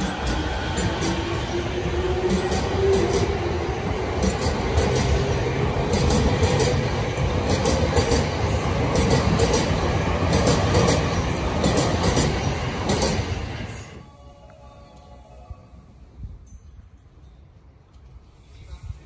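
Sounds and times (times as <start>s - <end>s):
electric train rumbling past: 0.0s - 19.0s.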